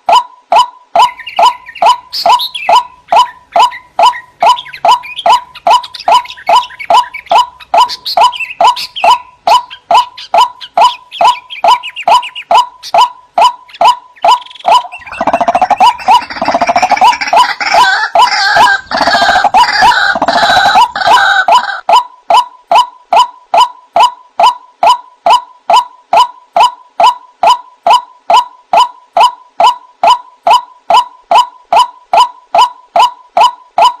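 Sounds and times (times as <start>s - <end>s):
waterhen calling: 0.5s - 34.0s.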